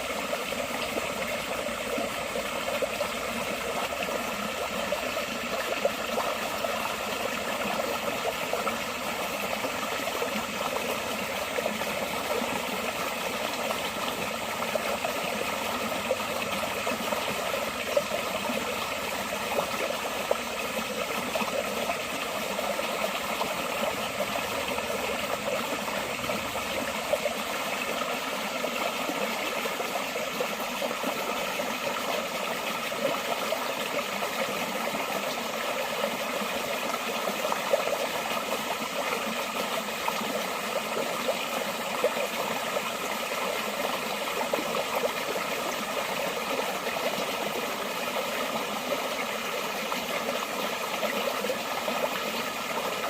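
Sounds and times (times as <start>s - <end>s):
stream babbling: 0.0s - 53.0s.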